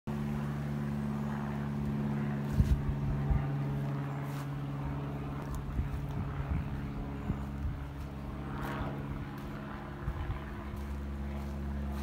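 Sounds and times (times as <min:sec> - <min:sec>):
engine drone: 0:00.1 - 0:12.0.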